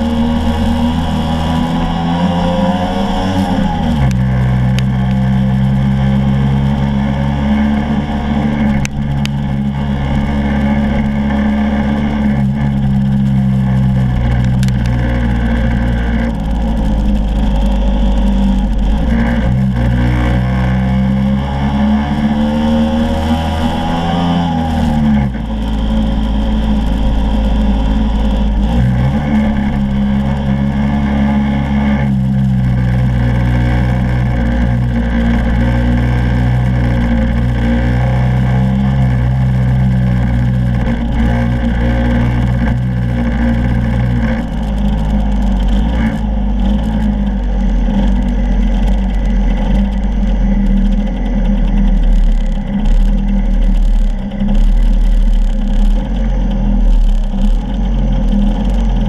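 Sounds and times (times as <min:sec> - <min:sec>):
road rumble: 0:00.0 - 0:59.0
scooter engine running: 0:00.0 - 0:59.0.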